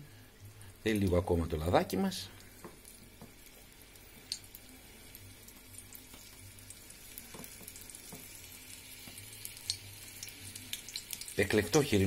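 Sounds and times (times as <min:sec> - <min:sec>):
meat sizzling in oil: 0:01.0 - 0:12.0.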